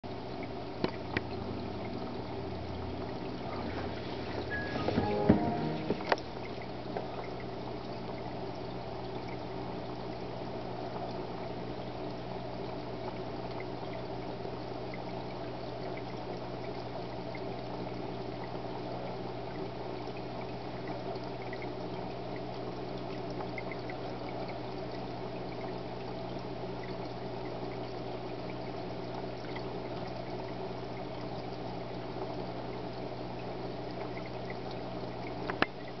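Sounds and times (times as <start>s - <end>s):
water trickling into tank: 0.1s - 36.0s.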